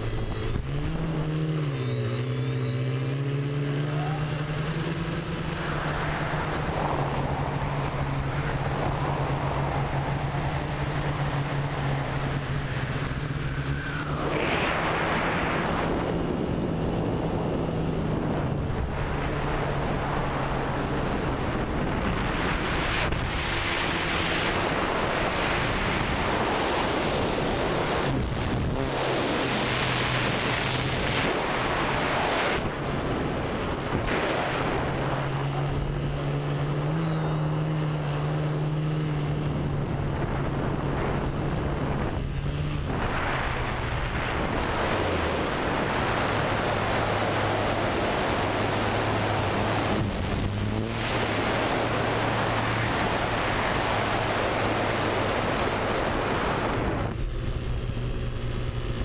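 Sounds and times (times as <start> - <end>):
drone motors humming: 0.0 - 59.0
wind rushing on microphone: 0.0 - 59.0.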